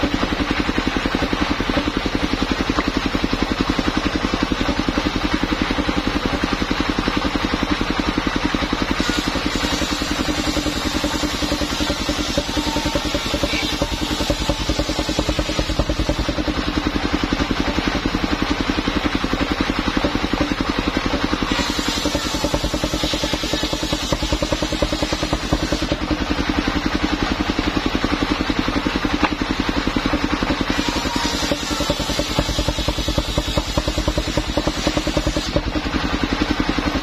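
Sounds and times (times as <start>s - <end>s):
circular saw blade cutting log: 0.0s - 37.0s
sawmill engine running: 0.0s - 37.0s.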